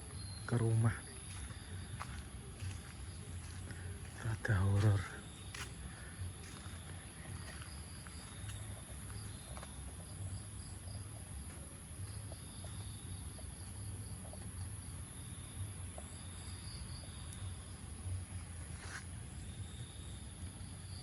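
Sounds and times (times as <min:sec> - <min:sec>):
insects chirring: 0:00.0 - 0:21.0
pulsing insect chirp: 0:00.0 - 0:21.0.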